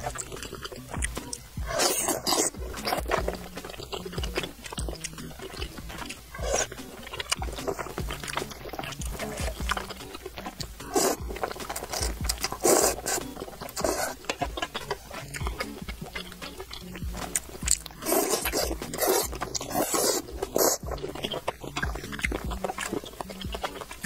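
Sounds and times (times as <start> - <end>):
mouth clicks: 0.0 - 24.0
noodles being slurped: 0.0 - 24.0
wet chewing: 0.0 - 24.0.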